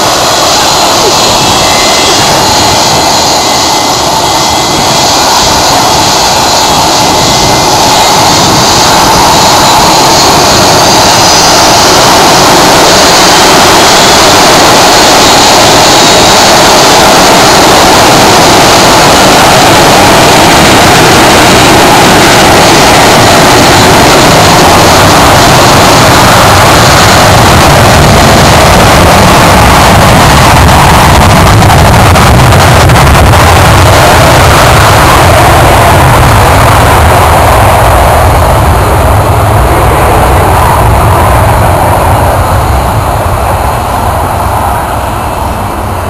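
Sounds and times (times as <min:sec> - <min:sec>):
jet engines roaring on takeoff: 0:00.0 - 0:46.0.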